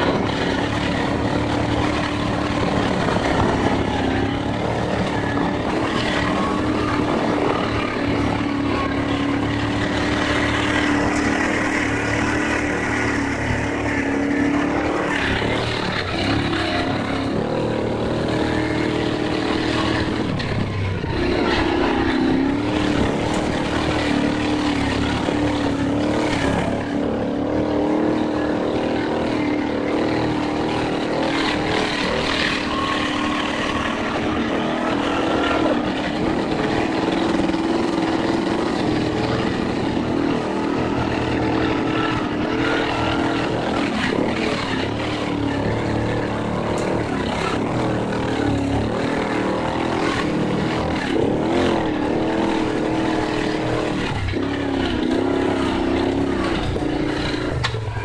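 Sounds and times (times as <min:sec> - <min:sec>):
motorboat engine humming: 0:00.0 - 0:58.0.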